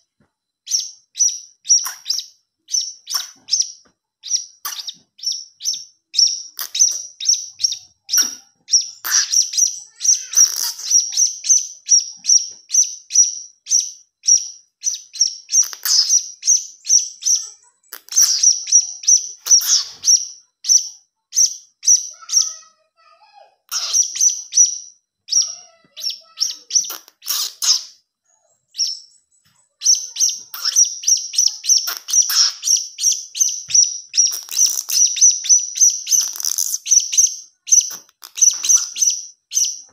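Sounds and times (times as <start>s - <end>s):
young parrot chirping: 0.7s - 39.9s.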